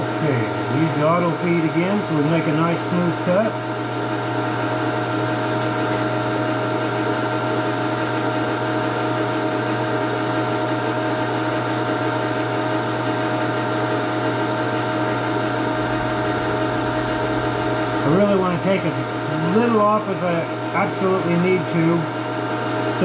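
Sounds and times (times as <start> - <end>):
metal lathe humming: 0.0 - 23.0.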